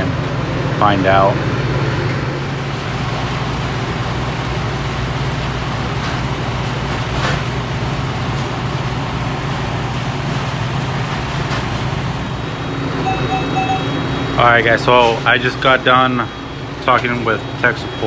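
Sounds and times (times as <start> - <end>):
compressor hum: 0.0 - 18.0
fan air rushing: 0.0 - 18.0.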